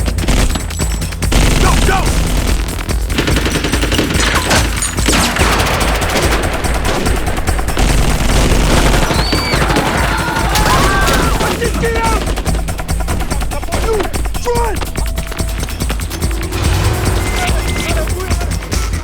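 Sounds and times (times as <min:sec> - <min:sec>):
automatic gunfire: 0:00.0 - 0:15.6.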